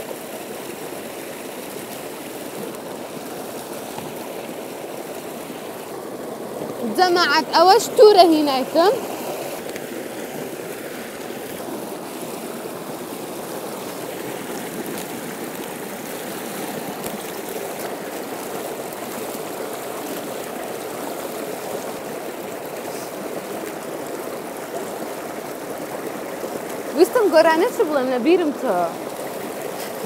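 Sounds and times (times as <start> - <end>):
stream rushing over stones: 0.0 - 30.0.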